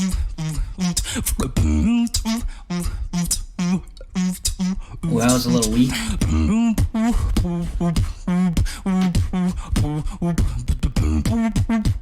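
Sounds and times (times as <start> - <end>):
beatboxing vocal drum clicks: 0.0 - 12.0.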